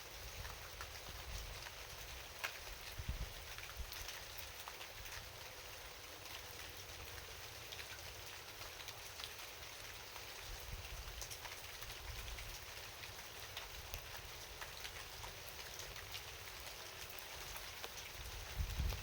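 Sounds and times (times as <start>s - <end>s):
raindrops ticking: 0.0s - 19.0s
steady rain hiss: 0.0s - 19.0s.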